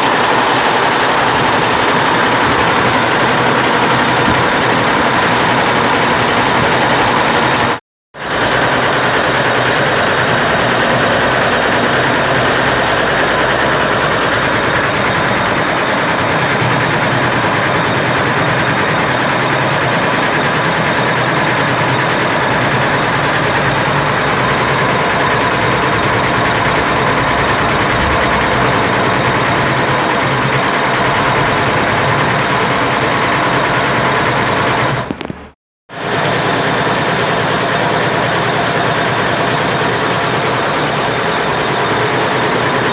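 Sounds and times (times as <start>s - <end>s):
embroidery machine rattling: 0.0s - 42.9s.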